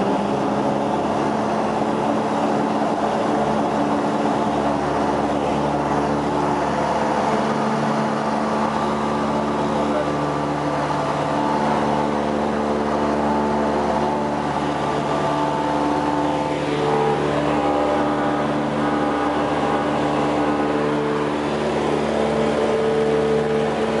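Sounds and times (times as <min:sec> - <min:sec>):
propeller plane engine running: 0:00.0 - 0:24.0.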